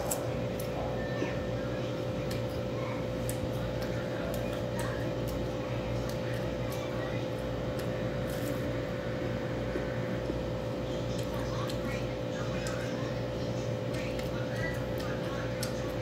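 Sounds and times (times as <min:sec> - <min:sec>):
person chewing crunchy fruit: 0:00.0 - 0:16.0
steady electrical hum: 0:00.0 - 0:16.0.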